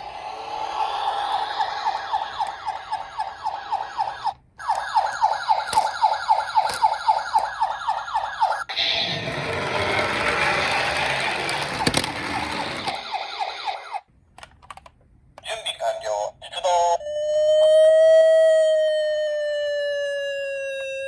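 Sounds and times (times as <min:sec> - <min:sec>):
toy car electronic siren yelp: 0:00.7 - 0:14.0, 0:16.9 - 0:21.0.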